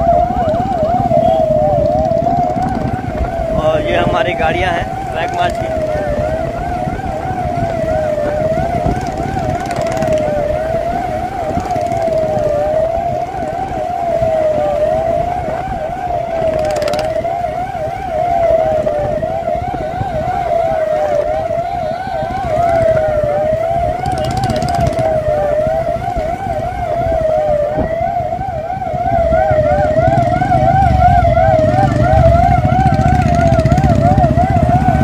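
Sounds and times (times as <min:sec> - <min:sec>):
engines and road noise: 0:00.0 - 0:35.0
siren wailing: 0:00.0 - 0:35.0
siren yelping: 0:00.0 - 0:35.0.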